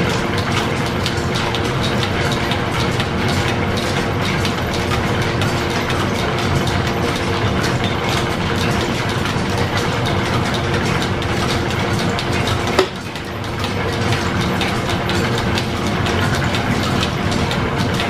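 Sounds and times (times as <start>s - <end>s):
shop machinery clattering: 0.0s - 18.0s.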